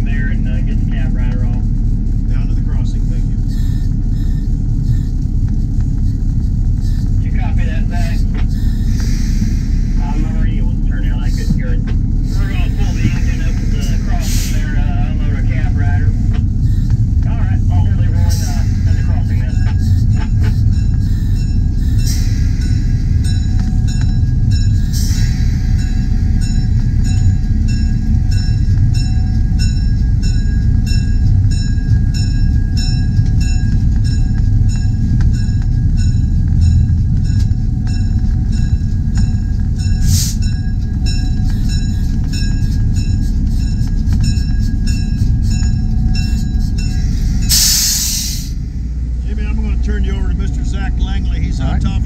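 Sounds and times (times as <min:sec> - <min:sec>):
train rumbling with clicking wheels: 0:00.0 - 0:52.0.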